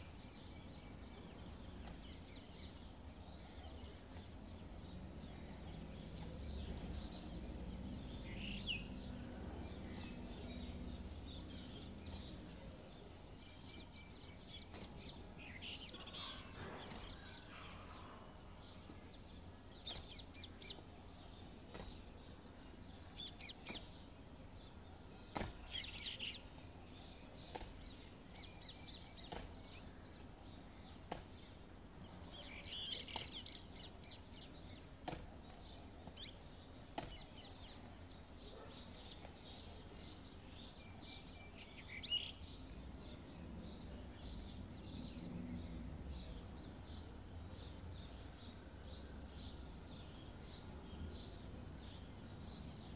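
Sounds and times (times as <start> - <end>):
birds calling: 0.0 - 52.9.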